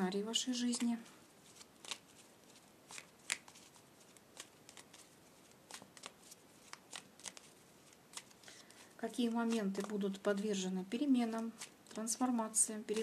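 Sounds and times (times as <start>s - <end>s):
cards being shuffled: 0.6s - 10.2s, 11.2s - 13.0s.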